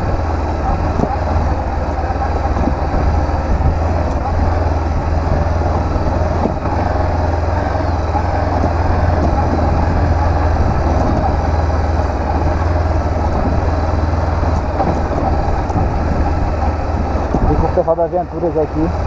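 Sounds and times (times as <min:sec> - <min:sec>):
motorcycle engine running: 0:00.0 - 0:19.0
wind rumble on microphone: 0:00.0 - 0:19.0.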